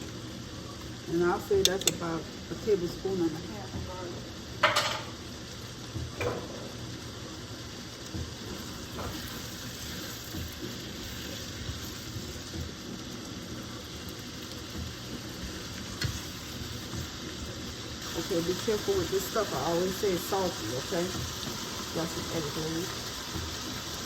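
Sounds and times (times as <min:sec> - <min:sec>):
vegetables sizzling in butter: 0:00.0 - 0:24.0.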